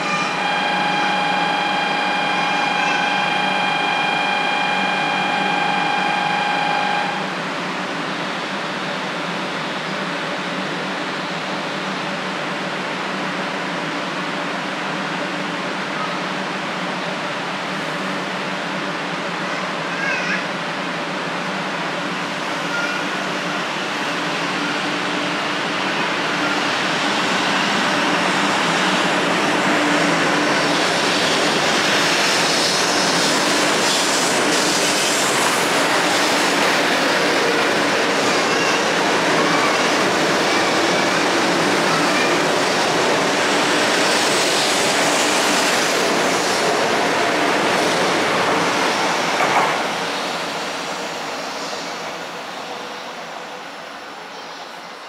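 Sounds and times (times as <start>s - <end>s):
electric train rolling past: 0.0s - 19.9s, 20.5s - 55.0s.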